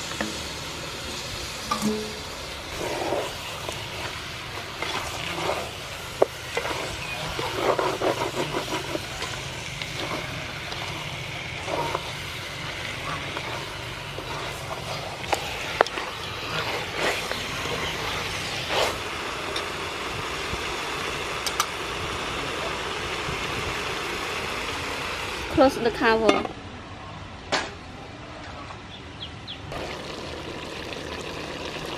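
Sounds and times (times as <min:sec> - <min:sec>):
chicken sizzling in hot oil: 0:00.0 - 0:26.1, 0:29.7 - 0:31.9.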